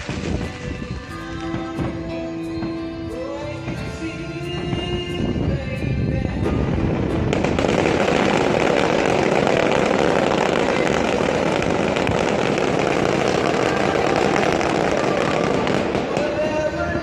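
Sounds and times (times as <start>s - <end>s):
fireworks crackling and banging: 0.0s - 3.0s, 6.4s - 17.0s.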